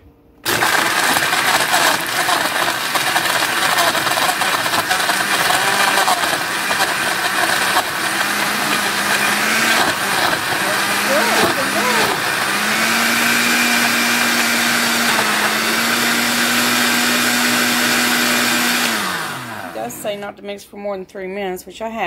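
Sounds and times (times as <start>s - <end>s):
blender running: 0.4s - 20.2s
blades churning ice and fruit: 0.4s - 20.3s.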